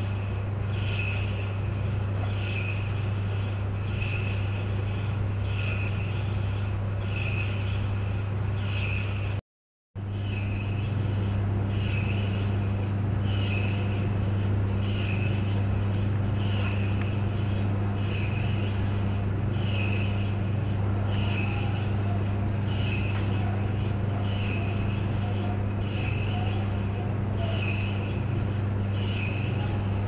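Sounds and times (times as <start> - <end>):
clothes dryer motor hum: 0.0 - 9.4, 10.0 - 30.0
dryer drum swishing: 0.0 - 9.4, 10.0 - 30.0.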